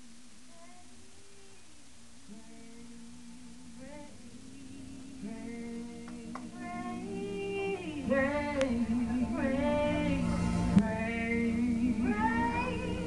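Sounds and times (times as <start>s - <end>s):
woman singing worship song: 0.5s - 13.0s.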